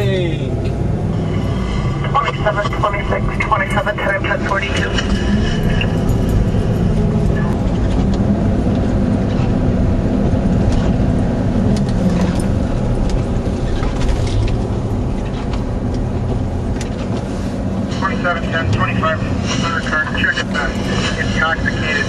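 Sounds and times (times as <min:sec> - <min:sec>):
car engine running loud: 0:00.0 - 0:22.0.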